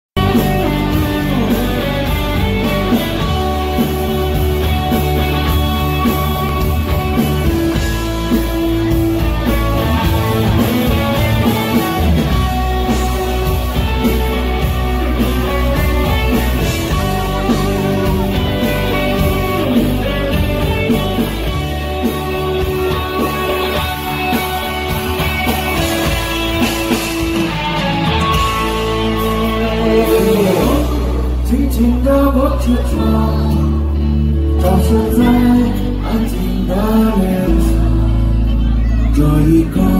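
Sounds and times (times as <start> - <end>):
rock band instrumental: 0.2 - 39.9.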